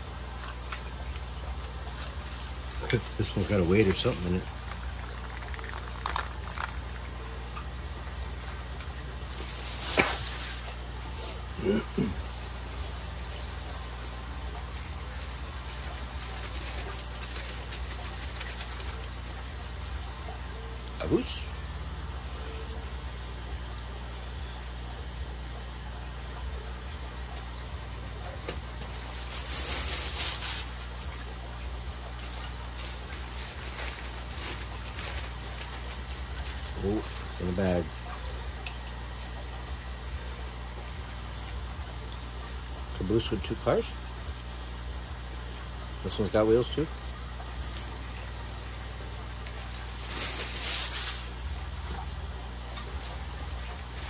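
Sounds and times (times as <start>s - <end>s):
plastic rustling: 0.0s - 19.8s, 28.5s - 43.8s, 45.2s - 54.0s
plastic wrapping crinkling: 0.0s - 20.0s, 28.7s - 43.8s, 45.2s - 54.0s
low electrical hum: 0.0s - 54.0s.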